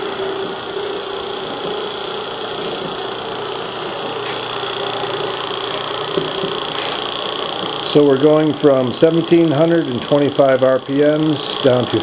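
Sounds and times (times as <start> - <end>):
meat grinder motor hum: 0.0 - 12.0.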